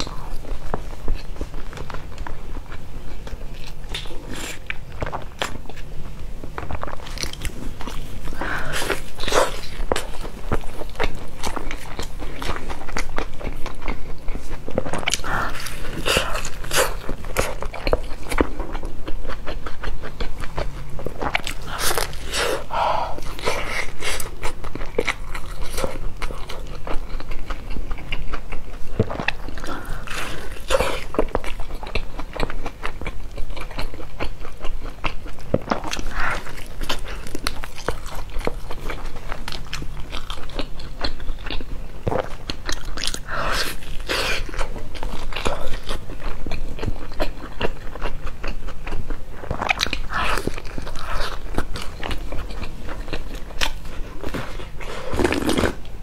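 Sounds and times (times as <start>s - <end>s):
biting and chewing flatbread: 0.0s - 56.0s.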